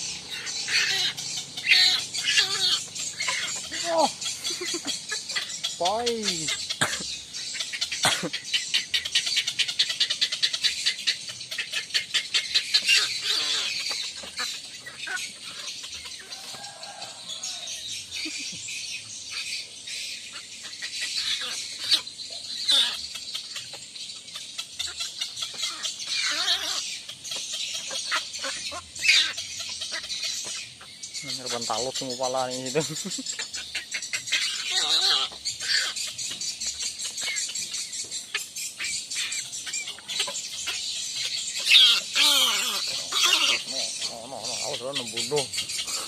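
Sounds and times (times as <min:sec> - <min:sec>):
bird squawking: 0:00.0 - 0:46.0.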